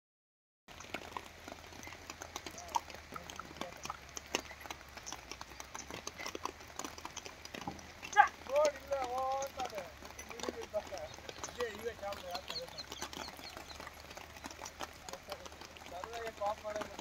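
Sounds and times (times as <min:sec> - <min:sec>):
raindrops tapping: 0:00.7 - 0:17.0.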